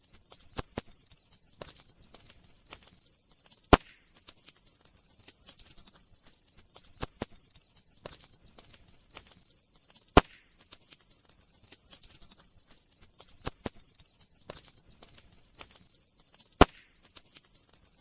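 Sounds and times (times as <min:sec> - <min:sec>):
fire popping: 0:00.0 - 0:18.0.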